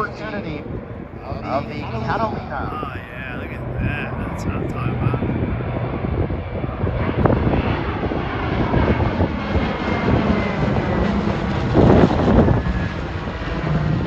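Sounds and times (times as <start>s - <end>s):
aircraft radial engines running: 0.0s - 14.0s.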